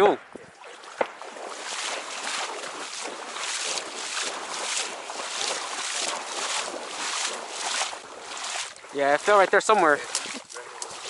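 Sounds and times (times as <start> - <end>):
footsteps sloshing through water: 0.2 - 11.0.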